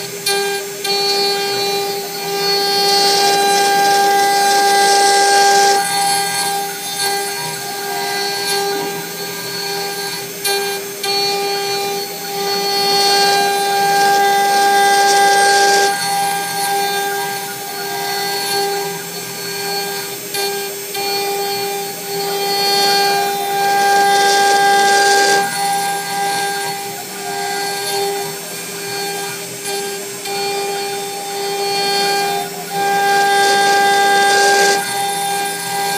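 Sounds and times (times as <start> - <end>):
router bit cutting wood: 0.0 - 35.9
router spindle high whine: 0.0 - 35.9.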